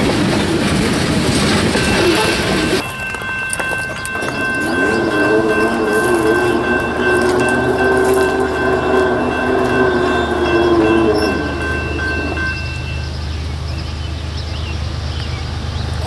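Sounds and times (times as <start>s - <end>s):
train high tones: 0.0s - 16.0s.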